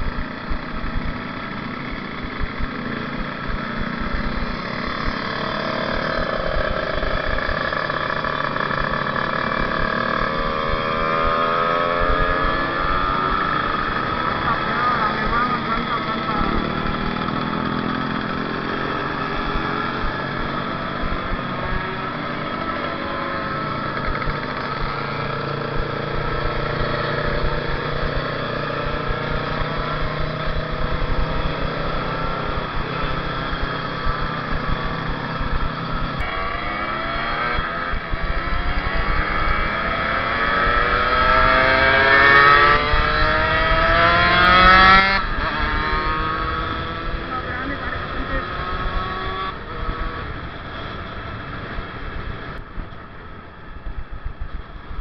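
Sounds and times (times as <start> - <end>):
two-stroke motorcycle engine: 0.0 - 55.0.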